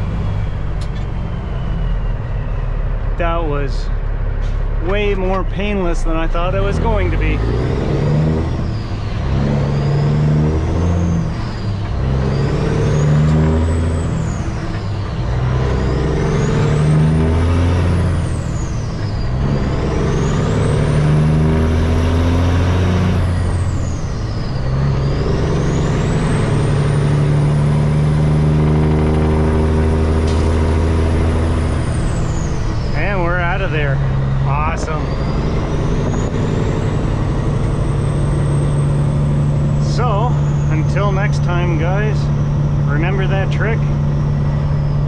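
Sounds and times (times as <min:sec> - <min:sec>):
diesel truck engine accelerating: 0:00.0 - 0:45.0.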